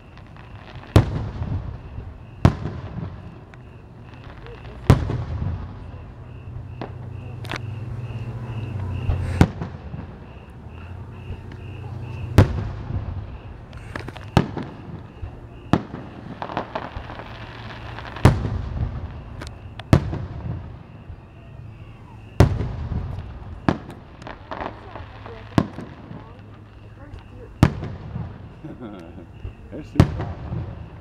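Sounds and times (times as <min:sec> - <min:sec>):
firework booms: 0:00.0 - 0:31.0
firework crackling: 0:00.0 - 0:31.0.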